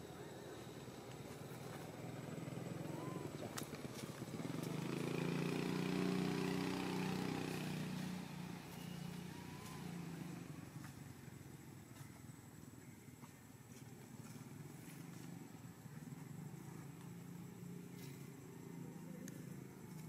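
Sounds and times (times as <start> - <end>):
vehicle engine running: 0.0 - 12.4, 13.7 - 20.0.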